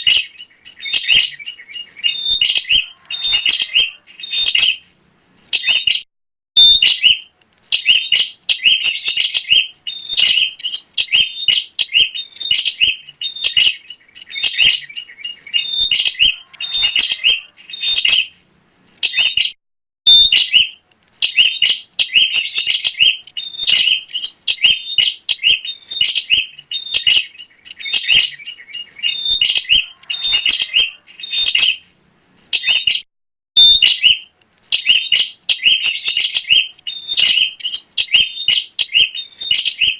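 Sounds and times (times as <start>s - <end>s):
bird chirps and trills: 0.0s - 6.0s, 6.6s - 33.0s, 33.6s - 39.9s.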